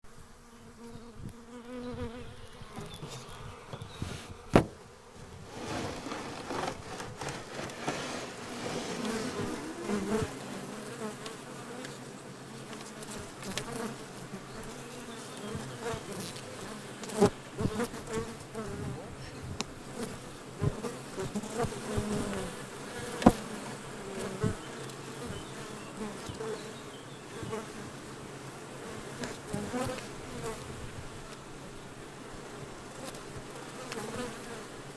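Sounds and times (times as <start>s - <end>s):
bees buzzing in a hive: 0.1s - 34.9s.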